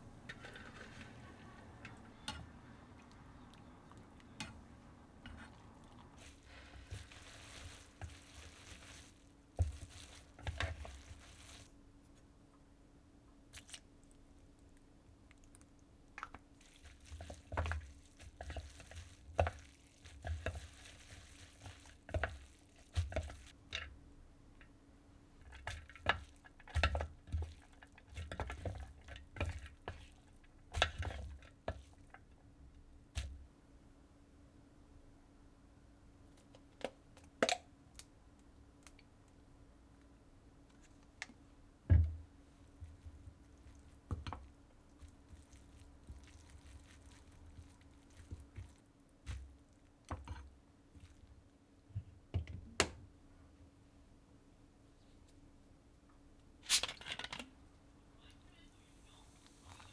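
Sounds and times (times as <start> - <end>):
light sizzle: 0.0 - 12.6, 13.3 - 33.9, 37.4 - 52.0, 58.5 - 59.9.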